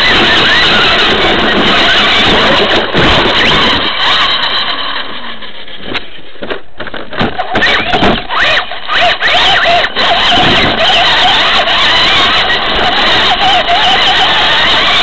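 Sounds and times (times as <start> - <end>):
rush of track: 0.0 - 6.2, 7.6 - 15.0.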